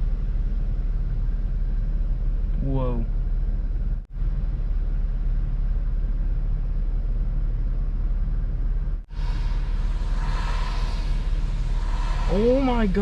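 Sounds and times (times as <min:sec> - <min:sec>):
car interior hum: 0:00.0 - 0:13.0
storm outside car: 0:00.0 - 0:13.0.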